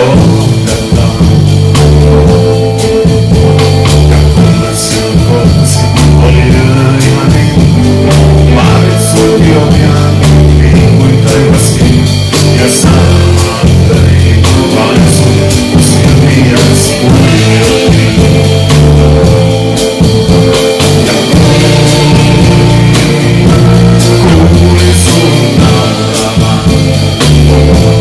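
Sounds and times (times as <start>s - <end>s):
man singing: 0.0s - 3.2s, 3.8s - 28.0s
rock band playing: 0.0s - 28.0s.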